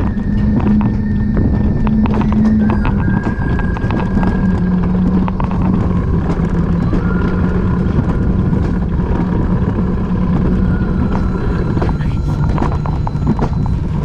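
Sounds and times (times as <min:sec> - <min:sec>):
coaster sled wheels humming: 0:00.0 - 0:14.0
small rattles: 0:00.0 - 0:14.0.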